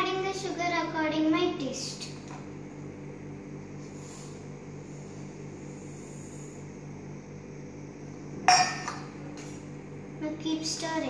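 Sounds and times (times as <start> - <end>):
electrical hum with hiss: 0.0 - 11.0.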